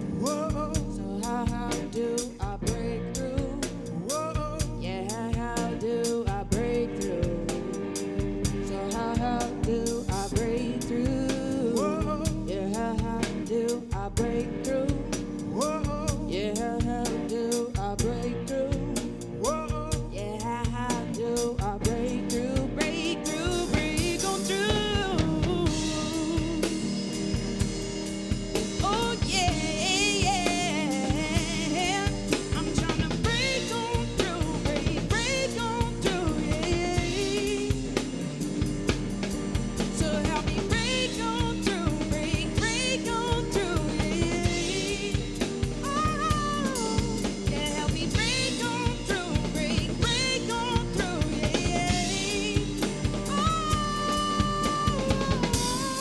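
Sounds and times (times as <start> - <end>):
drum kit beat: 0.0 - 56.0
person singing: 0.0 - 56.0.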